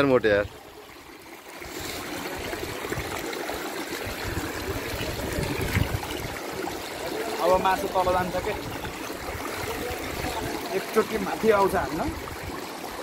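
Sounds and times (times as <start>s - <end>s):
river water rushing over boulders: 0.6s - 13.0s.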